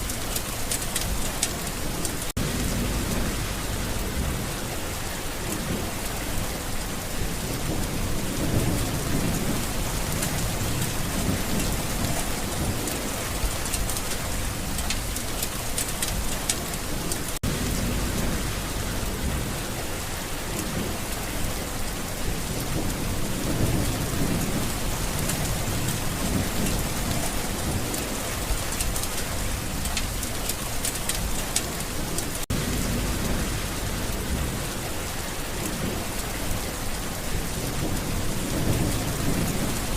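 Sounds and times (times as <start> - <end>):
low rumbles of thunder: 0.0 - 39.9
steady rain falling: 0.0 - 39.9.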